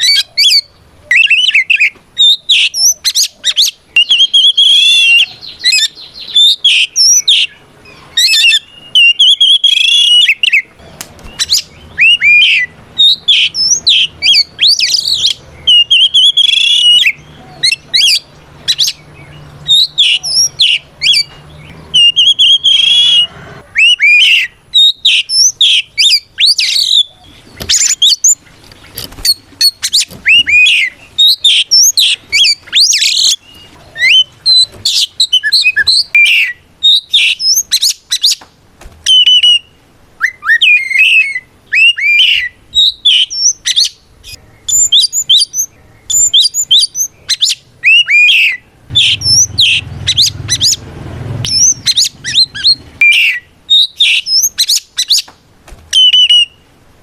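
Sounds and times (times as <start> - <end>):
bird singing whistled phrases: 0.0 - 28.4, 29.2 - 38.4, 39.1 - 50.8, 51.4 - 55.3, 55.9 - 56.6.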